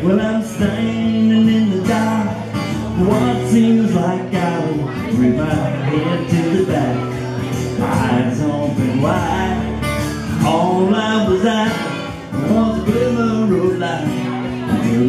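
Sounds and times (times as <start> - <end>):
man singing: 0.0 - 15.0
strummed acoustic guitar: 0.0 - 15.0.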